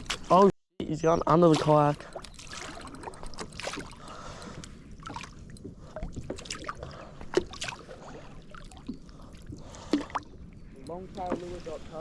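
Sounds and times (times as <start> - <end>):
water lapping against kayak hull: 1.3 - 12.0.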